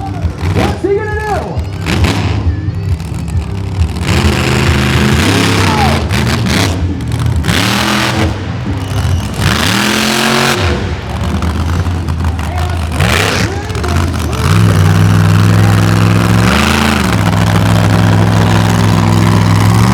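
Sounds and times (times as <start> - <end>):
monster truck engine revving: 0.0 - 19.9.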